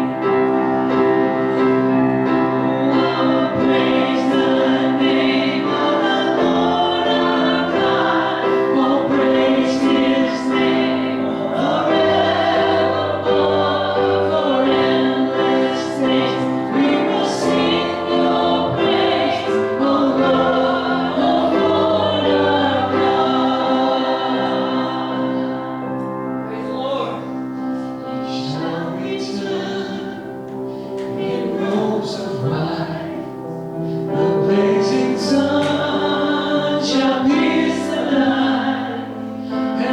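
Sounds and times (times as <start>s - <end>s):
choir singing a hymn: 0.0s - 39.9s
instrumental accompaniment: 0.0s - 39.9s.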